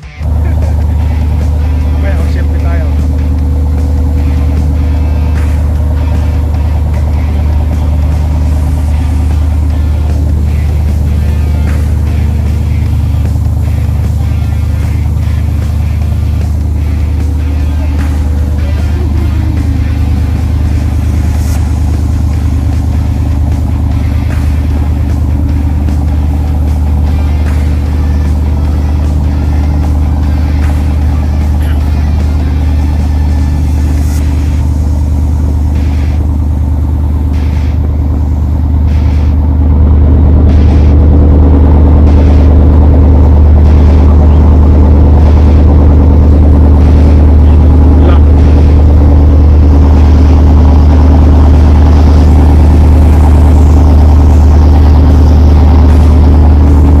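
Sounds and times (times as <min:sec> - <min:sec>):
boat engine drone: 0:00.0 - 0:57.0.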